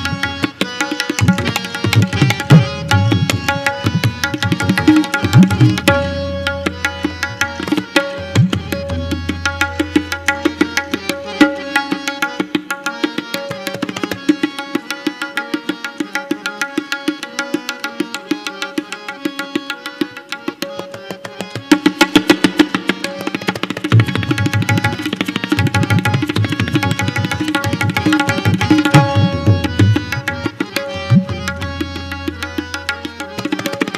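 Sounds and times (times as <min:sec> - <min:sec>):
harmonium melody: 0:00.0 - 0:33.9
tabla drumming: 0:00.0 - 0:33.9.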